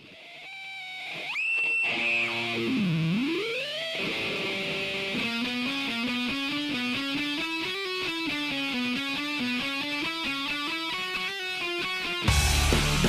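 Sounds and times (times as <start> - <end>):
electric guitar rock music: 0.0 - 13.0.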